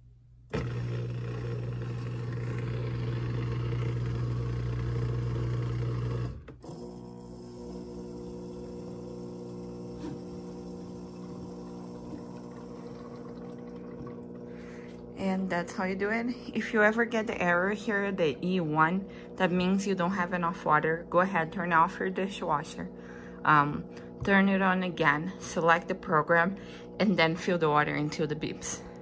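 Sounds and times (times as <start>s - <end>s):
dishwasher pump humming: 0.5s - 29.0s
steady motor hum: 0.5s - 29.0s.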